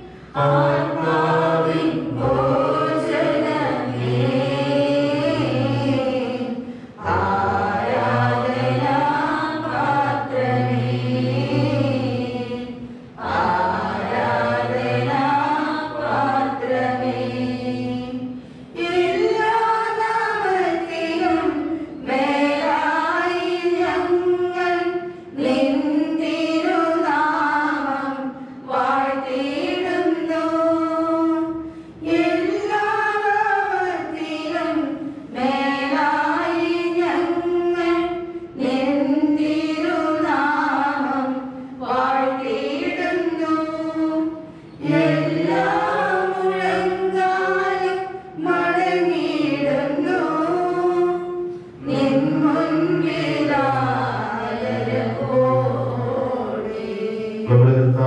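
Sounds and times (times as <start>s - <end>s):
church choir singing a hymn: 0.0s - 58.0s.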